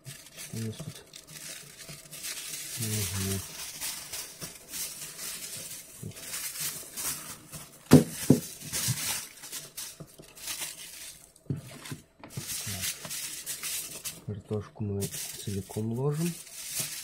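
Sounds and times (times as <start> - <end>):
kitchen foil crinkling: 0.0 - 17.0
sharp knocks of foil roll: 0.6 - 14.2, 15.0 - 17.0.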